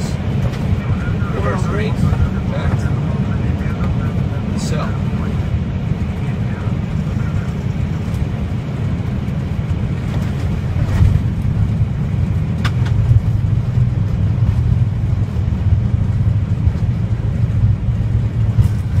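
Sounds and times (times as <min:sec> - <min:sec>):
jet engines: 0:00.0 - 0:19.0
wheels rumbling on runway: 0:00.0 - 0:19.0.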